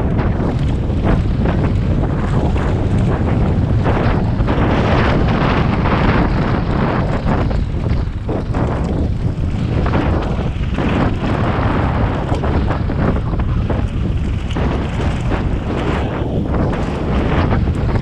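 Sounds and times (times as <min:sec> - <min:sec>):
bike rattling over bumps: 0:00.0 - 0:18.0
wind buffeting microphone: 0:00.0 - 0:18.0.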